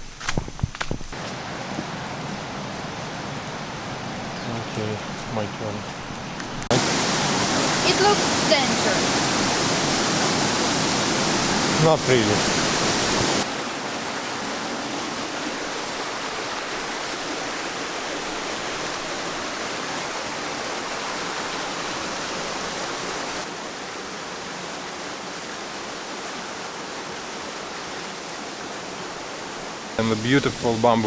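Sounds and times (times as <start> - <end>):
rushing water: 1.1 - 31.0.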